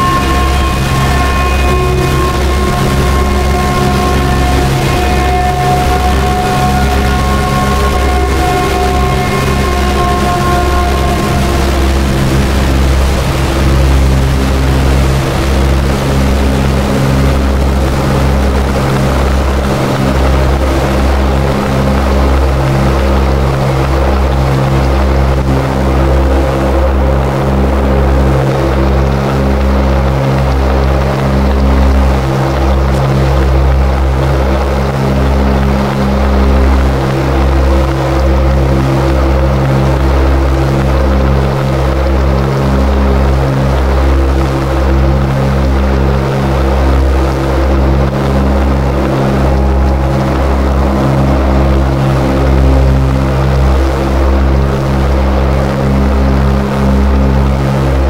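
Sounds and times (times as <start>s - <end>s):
stuttering low drone: 0.0s - 58.0s.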